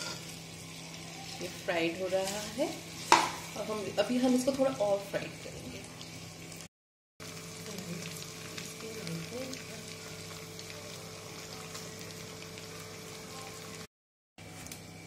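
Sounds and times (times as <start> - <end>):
chicken sizzling in fat: 0.0 - 15.0.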